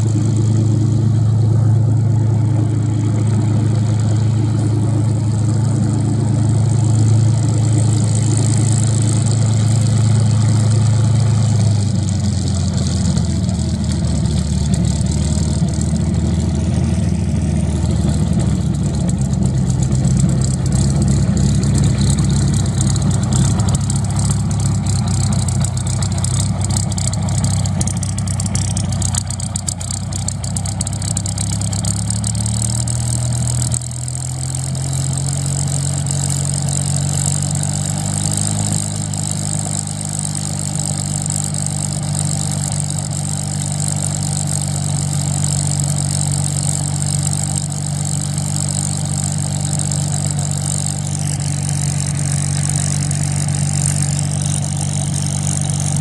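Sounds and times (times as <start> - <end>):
aircraft piston engine running: 0.0 - 56.0.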